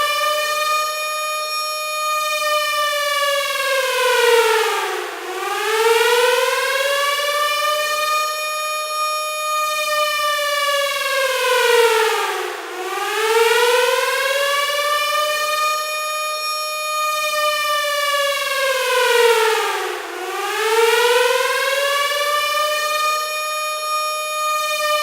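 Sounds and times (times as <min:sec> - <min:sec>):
warning siren wailing: 0:00.0 - 0:25.0.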